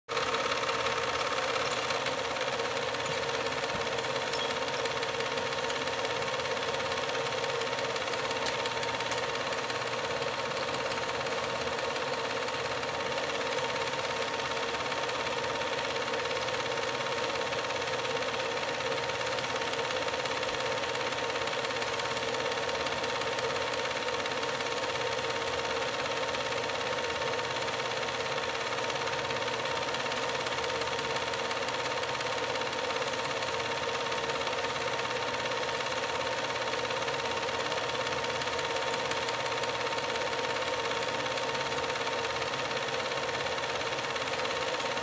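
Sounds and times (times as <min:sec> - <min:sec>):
film projector whirring: 0:00.1 - 0:45.0
rapid ticking of film transport: 0:00.2 - 0:45.0.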